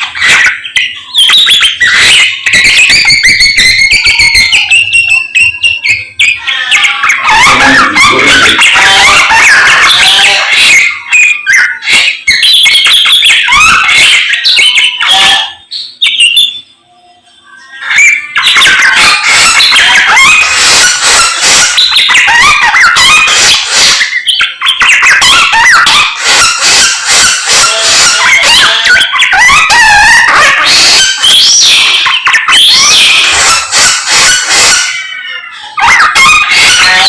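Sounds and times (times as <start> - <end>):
bird singing chattering song: 0.0 - 34.2.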